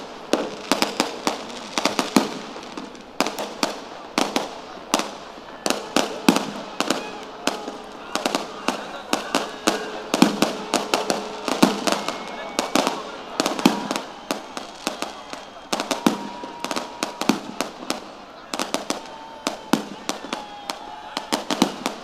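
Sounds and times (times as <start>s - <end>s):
firecrackers banging: 0.0s - 22.0s.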